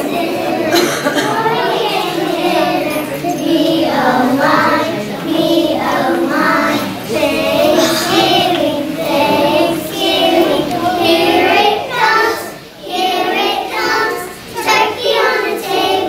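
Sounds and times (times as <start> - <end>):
children singing: 0.0 - 16.0.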